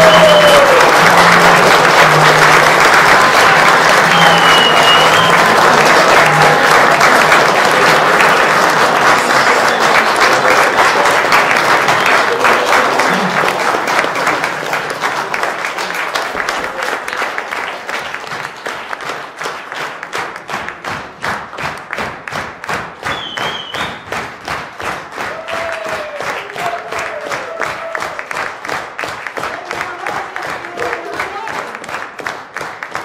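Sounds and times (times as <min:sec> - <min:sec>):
audience applauding: 0:00.0 - 0:33.0
rhythmic clapping in unison: 0:00.0 - 0:33.0.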